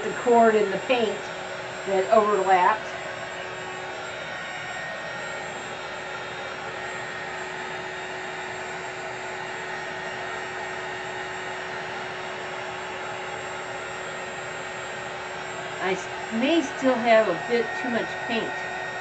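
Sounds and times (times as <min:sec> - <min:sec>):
heat gun fan whirring: 0:00.0 - 0:19.0.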